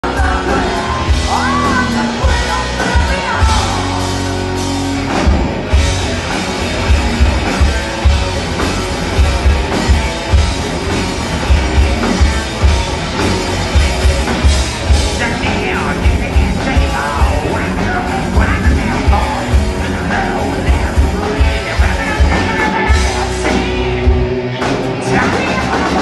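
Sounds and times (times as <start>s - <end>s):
live hard rock band: 0.0s - 26.0s.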